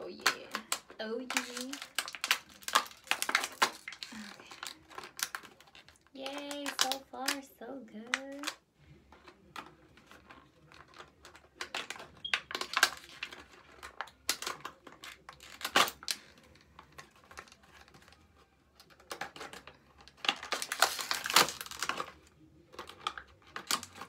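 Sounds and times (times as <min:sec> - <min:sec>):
fork tearing plastic bottle: 0:00.0 - 0:07.0, 0:09.6 - 0:18.2, 0:18.8 - 0:24.0.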